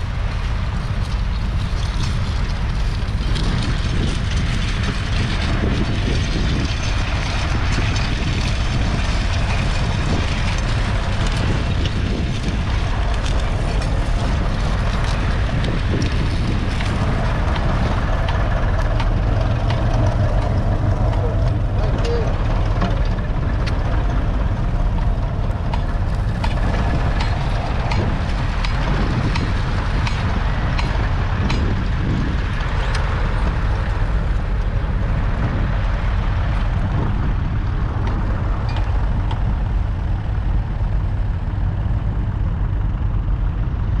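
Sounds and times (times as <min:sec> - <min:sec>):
tractor engine under load: 0:00.0 - 0:44.0.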